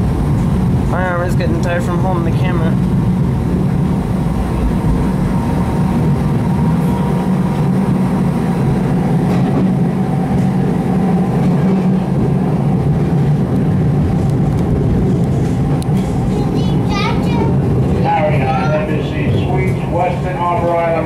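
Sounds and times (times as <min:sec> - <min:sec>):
streetcar rumbling on track: 0:00.0 - 0:21.0.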